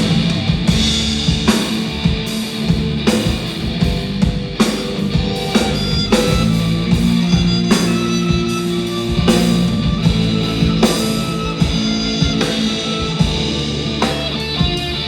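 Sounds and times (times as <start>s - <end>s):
cymbal accents: 0.0s - 15.0s
live band playing: 0.0s - 15.0s.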